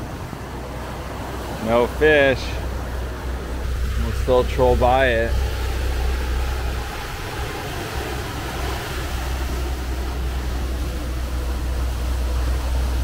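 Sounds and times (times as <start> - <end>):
boat engine droning: 0.0 - 13.0
wake water rushing: 0.0 - 13.0.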